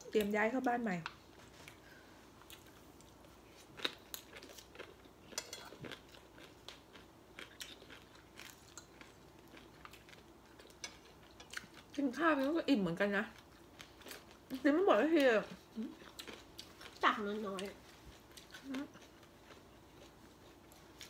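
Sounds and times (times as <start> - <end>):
chewing and crunching food: 0.9 - 21.0.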